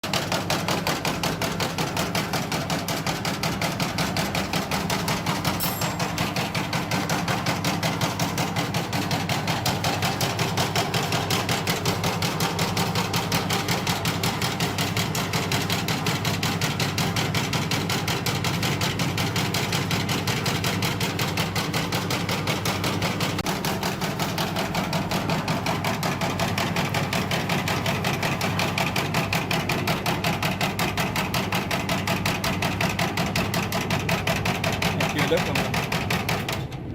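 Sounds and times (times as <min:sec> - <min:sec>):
machine blade chopping: 0:00.0 - 0:36.7.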